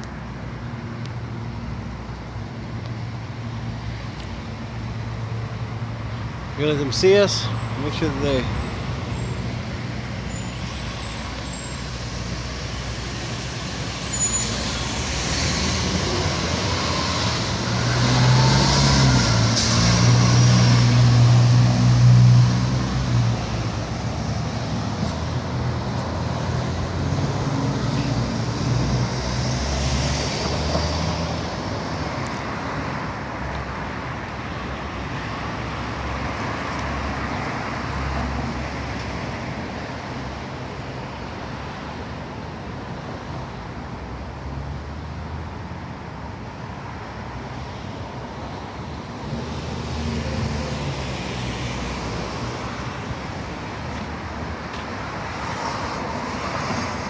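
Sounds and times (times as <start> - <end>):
heavy vehicle engine hum: 0.0 - 57.0
street traffic driving past: 0.0 - 57.0.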